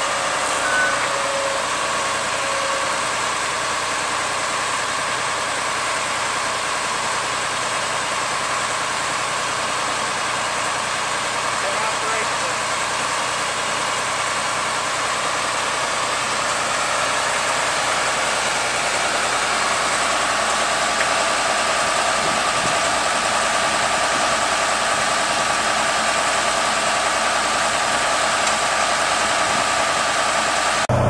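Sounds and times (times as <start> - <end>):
diesel engine running: 0.0 - 31.0
steady machine whine: 0.0 - 31.0.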